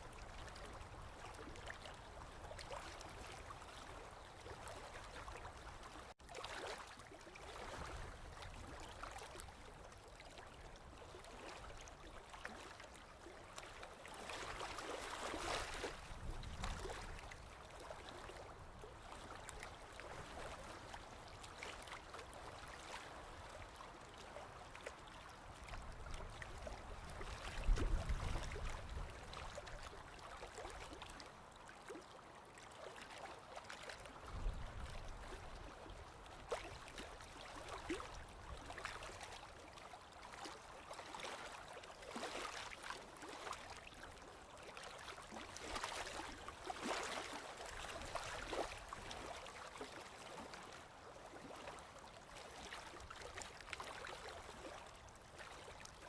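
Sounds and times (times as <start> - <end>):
sea water lapping: 0.0 - 56.0.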